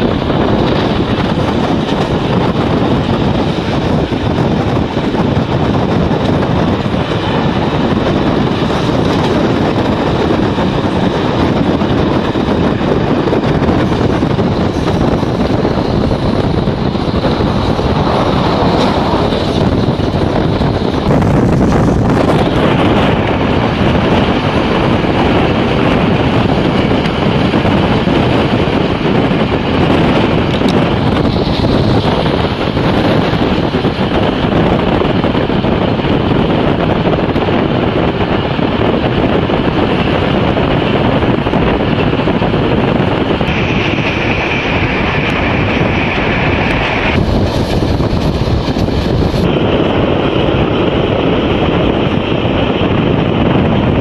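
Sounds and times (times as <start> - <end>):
passenger train running: 0.0 - 54.0
wind buffeting microphone: 0.0 - 54.0.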